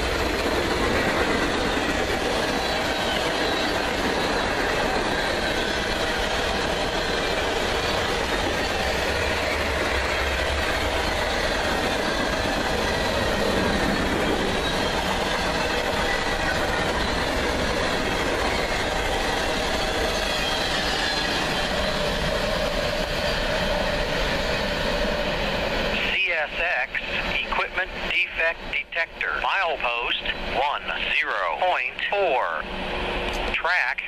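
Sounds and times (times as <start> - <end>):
train wheels on rails: 0.0 - 26.2, 32.4 - 33.6.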